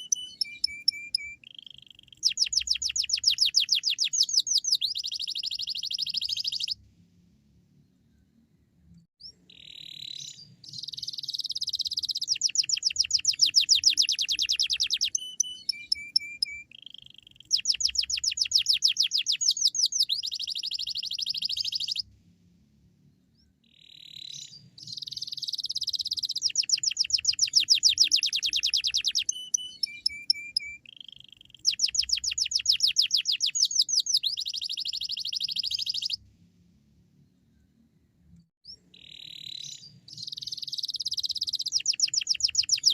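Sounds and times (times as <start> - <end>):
canary singing: 0.0 - 6.8, 9.2 - 22.0, 23.7 - 36.2, 38.7 - 42.9.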